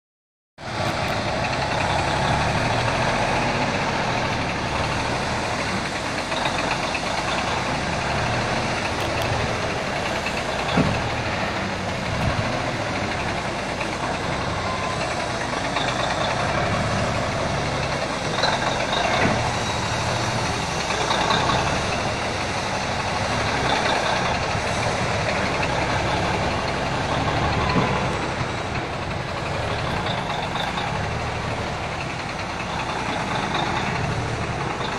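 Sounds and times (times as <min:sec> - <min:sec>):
truck diesel engine running: 0:00.6 - 0:34.9.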